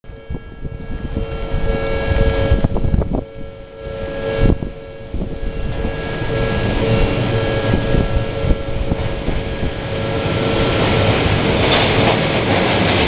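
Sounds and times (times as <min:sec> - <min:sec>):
level crossing warning bell: 0:00.1 - 0:13.0
low rumble: 0:00.1 - 0:13.0.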